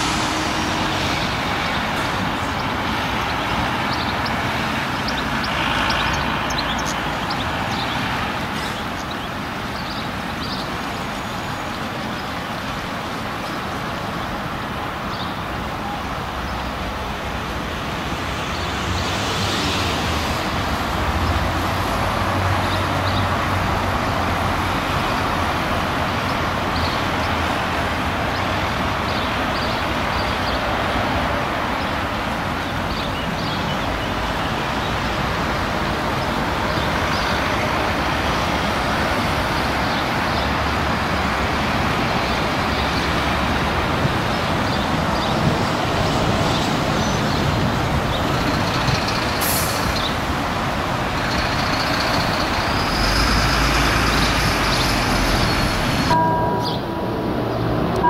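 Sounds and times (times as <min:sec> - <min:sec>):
diesel railcar engine and rolling: 0:00.0 - 0:58.0.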